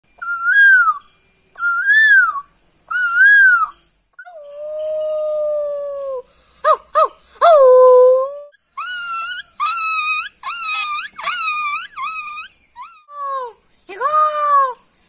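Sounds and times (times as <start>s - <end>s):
boy imitating dog howling: 1.6s - 14.8s.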